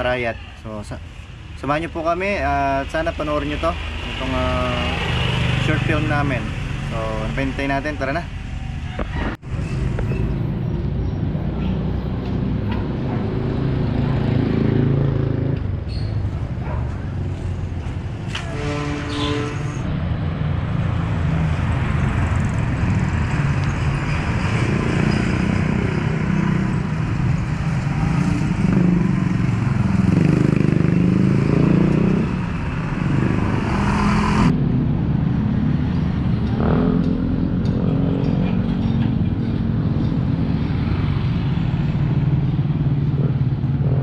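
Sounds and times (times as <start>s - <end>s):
low traffic rumble: 0.0s - 44.0s
motorcycles passing: 2.4s - 44.0s.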